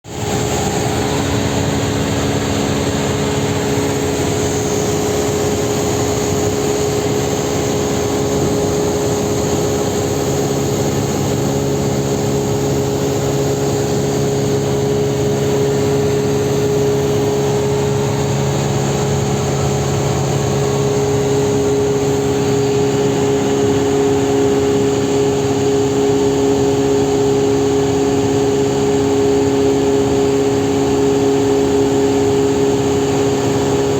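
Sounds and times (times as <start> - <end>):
airplane engine droning: 0.0 - 33.9
low hum: 0.1 - 33.9.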